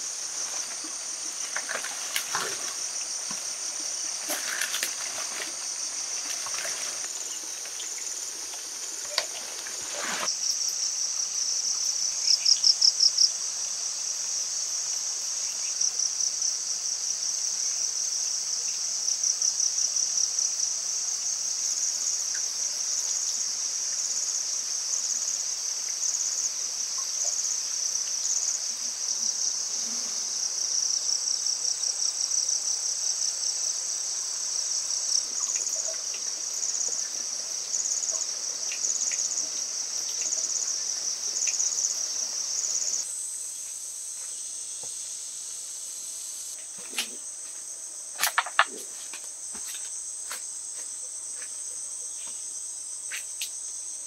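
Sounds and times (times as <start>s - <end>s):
insects trilling: 0.0s - 54.0s
rapid insect chirps: 0.0s - 54.0s.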